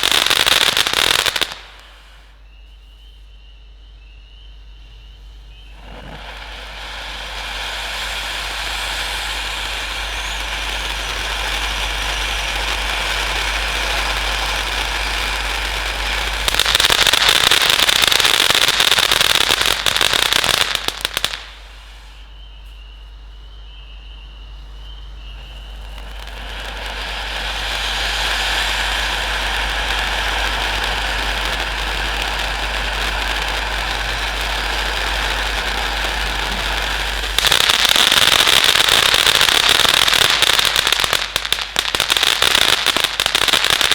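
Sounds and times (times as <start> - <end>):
firework crackling: 0.0 - 2.4, 5.3 - 22.4, 24.6 - 43.9
fountain firework hissing: 0.0 - 2.4, 4.9 - 22.6, 24.2 - 43.9.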